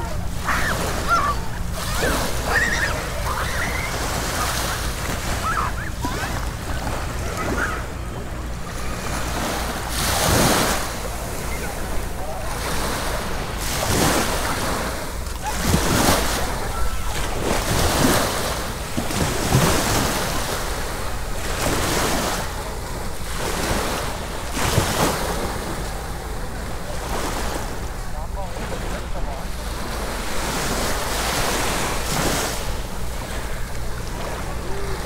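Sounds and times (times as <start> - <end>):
sea waves washing onto beach: 0.0 - 35.0.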